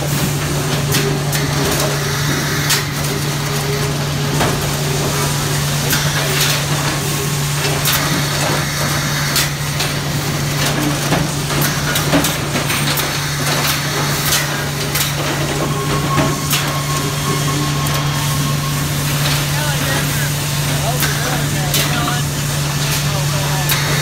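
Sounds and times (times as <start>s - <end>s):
sawmill machinery hum: 0.0s - 24.0s.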